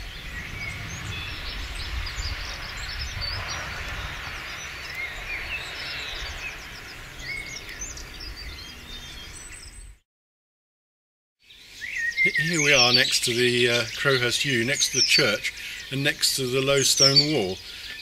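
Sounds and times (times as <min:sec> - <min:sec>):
small birds chirping: 0:00.0 - 0:10.0, 0:11.4 - 0:18.0.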